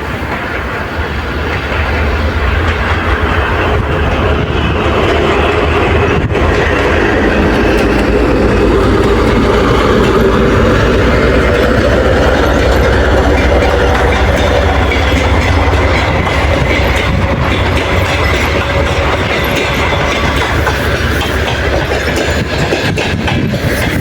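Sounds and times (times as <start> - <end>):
diesel locomotive hum: 0.0 - 24.0
train wheels clattering over rail joints: 0.0 - 24.0.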